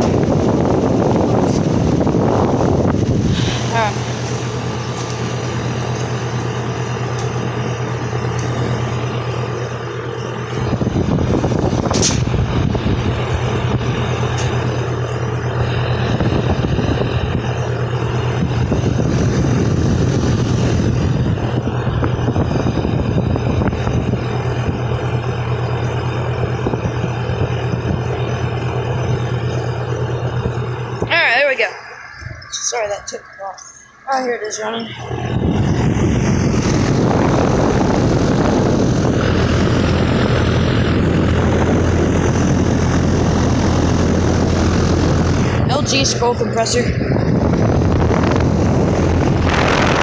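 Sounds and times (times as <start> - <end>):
air conditioner compressor hum: 0.0 - 50.0
condenser fan air rushing: 0.0 - 50.0.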